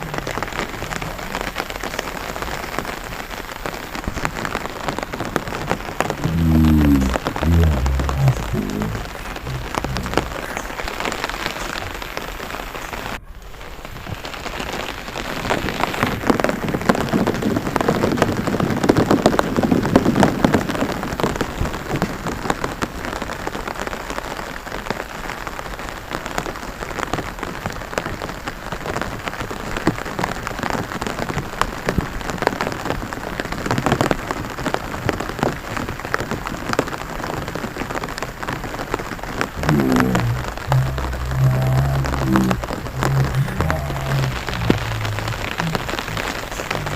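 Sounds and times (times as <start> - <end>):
rain pattering on water: 0.0 - 46.9.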